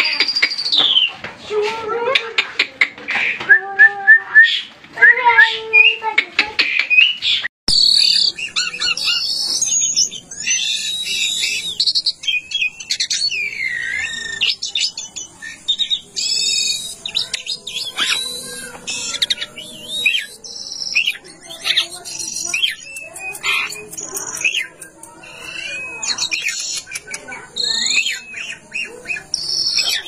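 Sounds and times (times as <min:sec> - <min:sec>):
songbird singing: 0:03.5 - 0:30.0.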